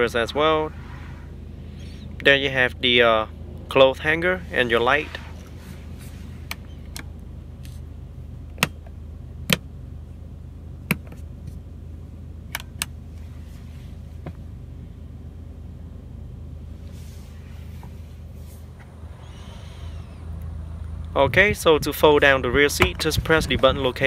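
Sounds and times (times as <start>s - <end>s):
low hum in car cabin: 0.0s - 24.0s.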